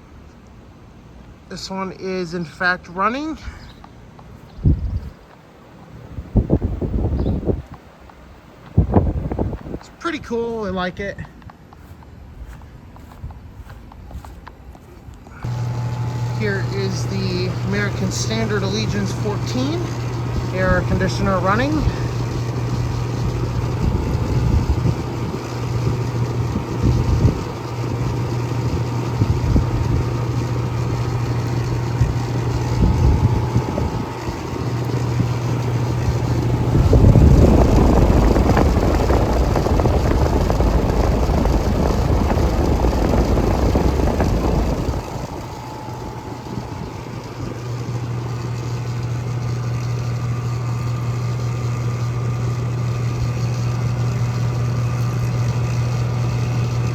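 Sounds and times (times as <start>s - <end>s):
air conditioner compressor hum: 0.0s - 56.9s.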